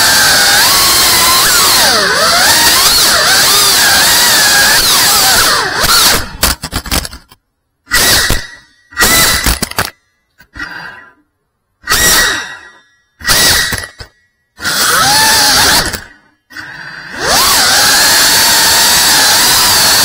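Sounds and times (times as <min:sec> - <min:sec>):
quadcopter motors whining: 0:00.0 - 0:06.4, 0:07.9 - 0:09.6, 0:11.8 - 0:20.0.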